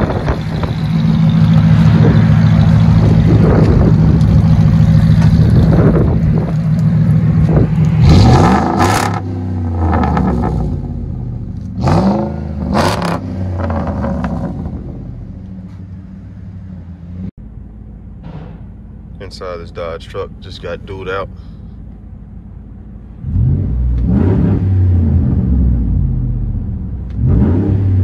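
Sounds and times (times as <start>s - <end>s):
truck exhaust idling and revving: 0.0s - 28.0s.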